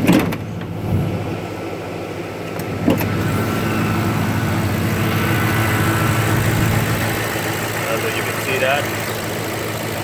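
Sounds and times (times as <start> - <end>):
pickup engine idling: 1.8 - 10.0.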